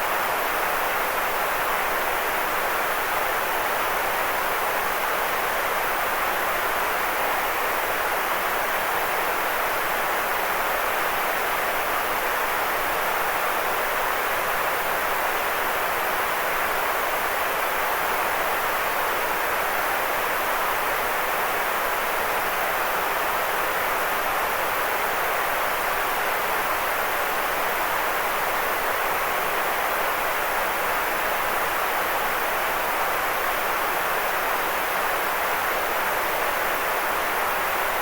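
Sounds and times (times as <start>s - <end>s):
white noise hiss: 0.0s - 38.0s.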